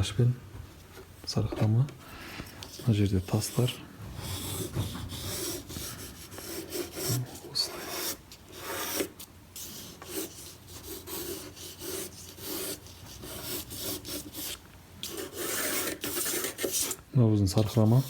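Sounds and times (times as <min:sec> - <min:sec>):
pencil scratching on paper: 0:02.7 - 0:17.0, 0:17.6 - 0:18.0.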